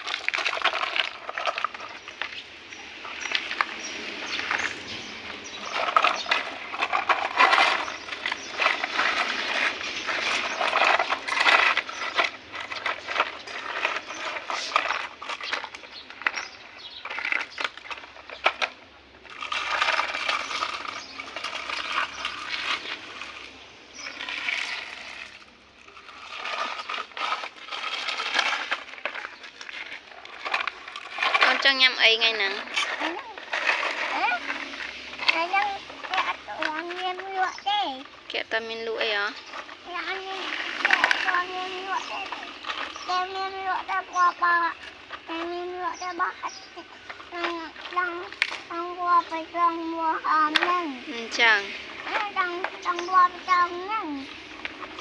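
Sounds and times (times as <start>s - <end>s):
plastic toys clattering: 0.0s - 55.0s.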